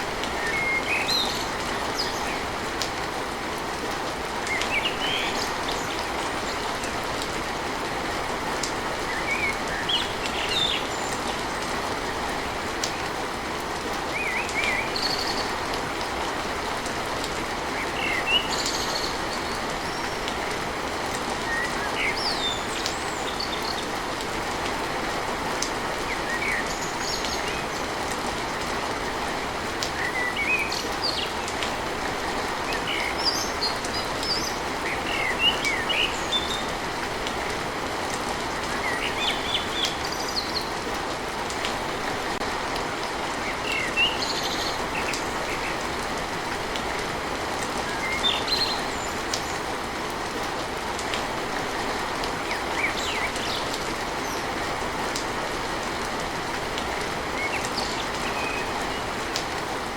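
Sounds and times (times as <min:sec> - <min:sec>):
rain pattering on a tin roof: 0:00.0 - 0:59.9.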